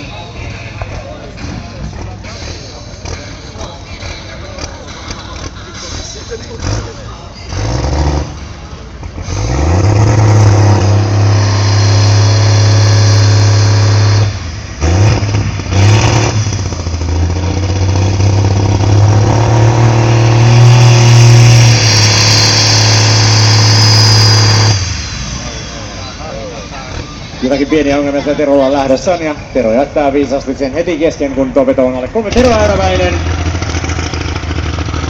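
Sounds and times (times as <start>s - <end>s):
tractor engine revving hard: 0.9s - 29.0s, 32.3s - 35.0s.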